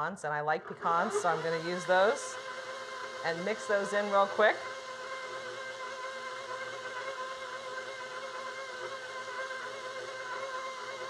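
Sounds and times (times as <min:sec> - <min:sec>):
stand mixer motor humming: 0:00.6 - 0:11.0.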